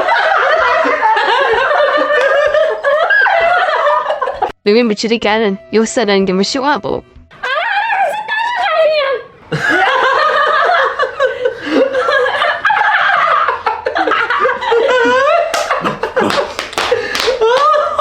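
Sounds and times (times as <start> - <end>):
loud laughter: 0.0 - 4.5, 7.3 - 18.0.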